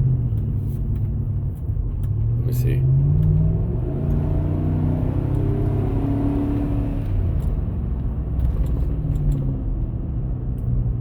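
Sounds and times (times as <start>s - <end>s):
vehicle low hum and rumble: 0.0s - 11.0s.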